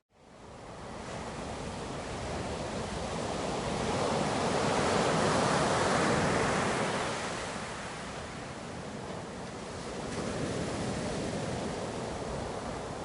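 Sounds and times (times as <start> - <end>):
ocean waves: 0.2 - 13.0.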